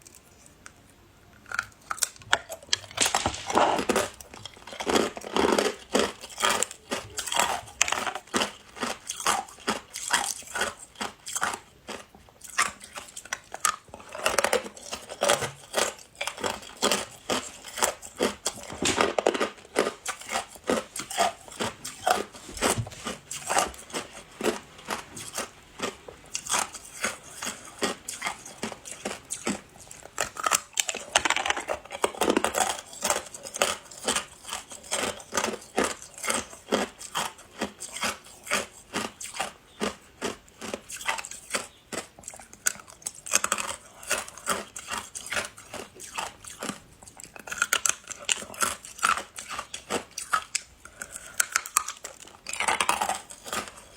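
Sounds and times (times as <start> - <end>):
person chewing hard ice: 0.0 - 53.9.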